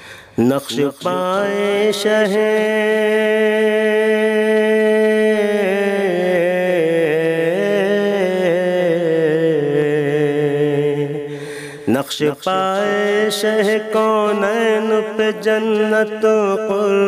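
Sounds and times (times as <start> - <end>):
person singing devotional song: 0.0 - 17.0.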